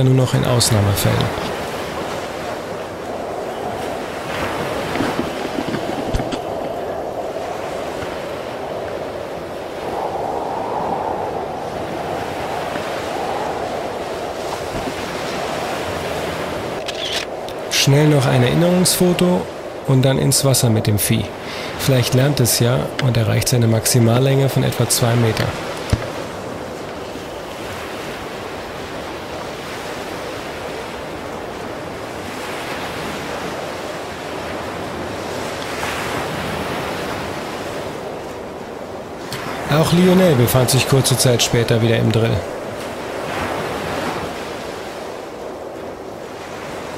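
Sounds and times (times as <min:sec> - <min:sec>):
surf breaking on beach: 0:00.0 - 0:46.9
wind on microphone: 0:00.6 - 0:46.9.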